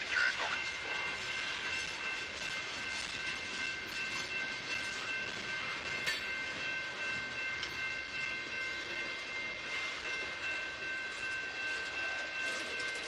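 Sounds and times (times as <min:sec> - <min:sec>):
high-pitched ringing tones: 0:00.0 - 0:13.0
steel wheels on rails: 0:00.0 - 0:13.0.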